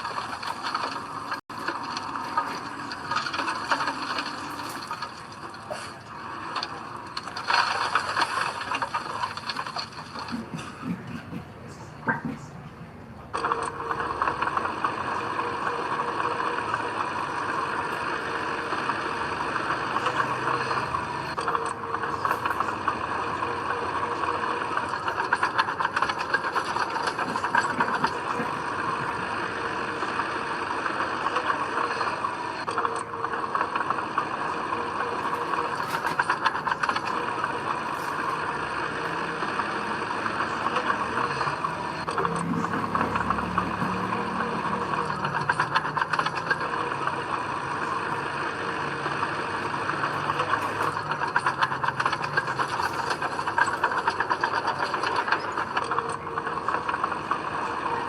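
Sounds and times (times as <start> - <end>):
diesel machinery rattling: 0.0 - 58.0.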